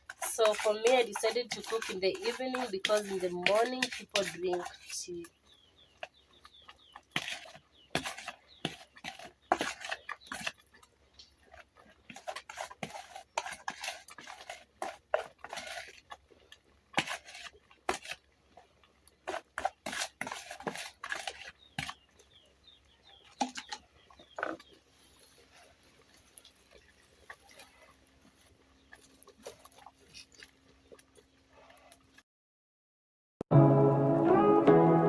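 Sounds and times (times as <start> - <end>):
wooden stick stirring porridge in pot: 0.0 - 32.2.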